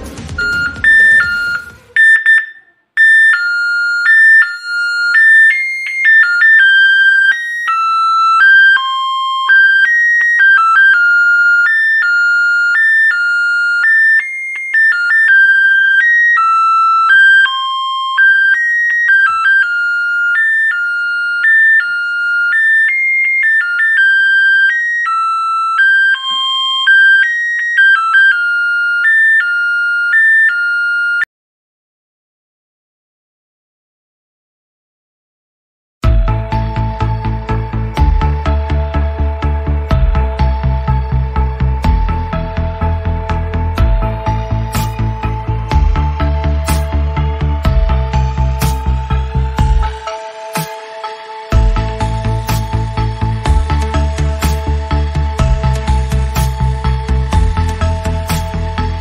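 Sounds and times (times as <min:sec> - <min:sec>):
electronic beeping melody: 0:00.0 - 0:31.3, 0:36.0 - 0:59.0.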